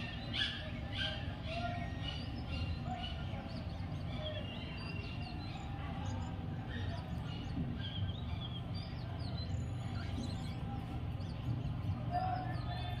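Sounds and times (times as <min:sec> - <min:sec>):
low outdoor background hum: 0:00.0 - 0:13.0
small birds chirping: 0:00.0 - 0:13.0.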